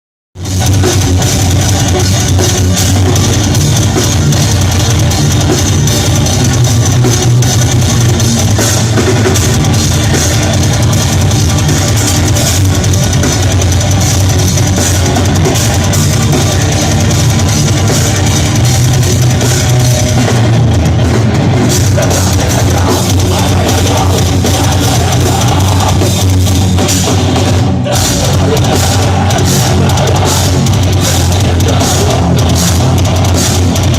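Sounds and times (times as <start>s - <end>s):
death metal band playing: 0.4s - 33.9s.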